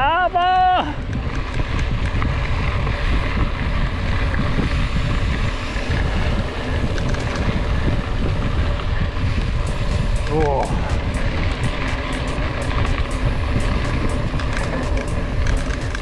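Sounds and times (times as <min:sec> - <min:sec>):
bike clicks and rattles: 0:00.0 - 0:16.0
bike tyres rolling on dirt: 0:00.0 - 0:16.0
wind buffeting microphone: 0:00.0 - 0:16.0.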